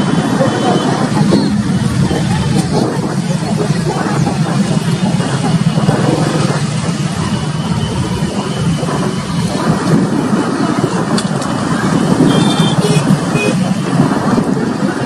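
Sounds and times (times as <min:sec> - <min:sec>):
diesel locomotive engine rumbling: 0:00.0 - 0:15.0.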